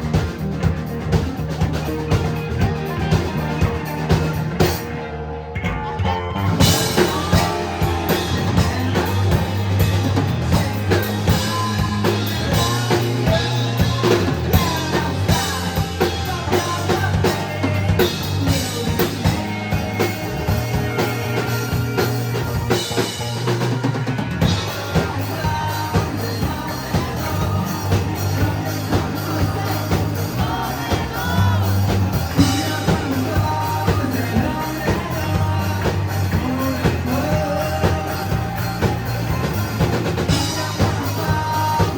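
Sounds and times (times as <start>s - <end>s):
drum kit steady beat: 0.0s - 41.9s
live rock band playing: 0.0s - 41.9s.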